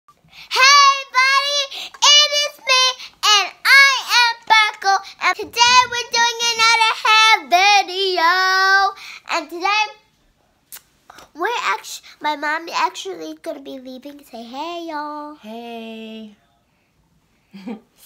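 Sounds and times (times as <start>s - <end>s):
girl singing unaccompanied: 0.3s - 10.1s, 11.1s - 16.4s.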